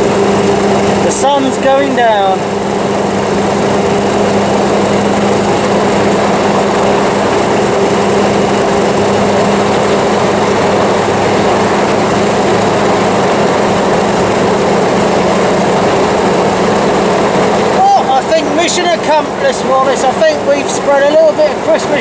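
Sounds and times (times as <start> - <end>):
car engine running steadily: 0.0 - 22.0
road noise: 0.0 - 22.0.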